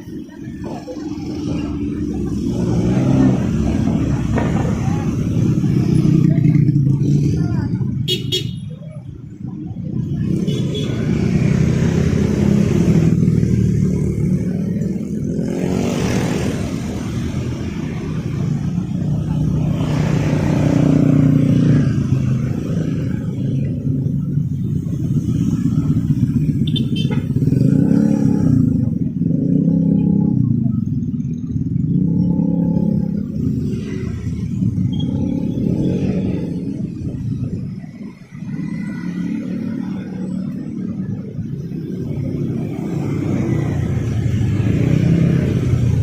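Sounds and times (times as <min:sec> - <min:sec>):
cars and motorcycles passing: 0:00.0 - 0:46.0.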